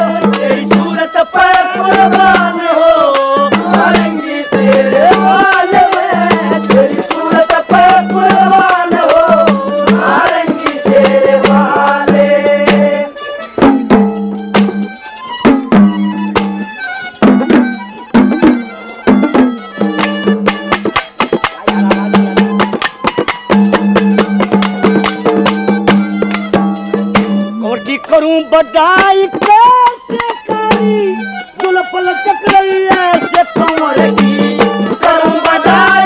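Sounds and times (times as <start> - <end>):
folk melody with sliding pitch: 0.0 - 36.0
steady drum beat: 0.0 - 36.0.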